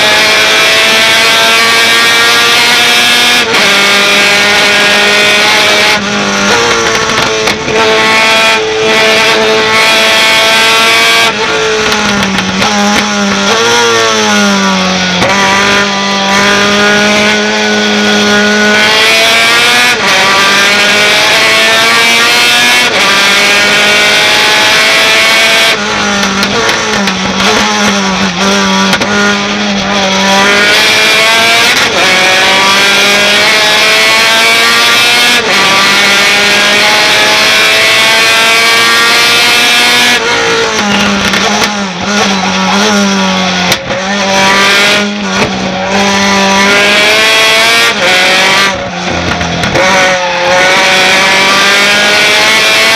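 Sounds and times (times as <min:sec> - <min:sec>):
truck engine revving through gears: 0:00.0 - 0:52.9.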